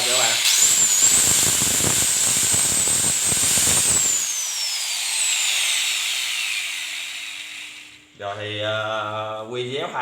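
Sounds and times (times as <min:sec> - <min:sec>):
electric tile cutter whining: 0:00.0 - 0:08.0.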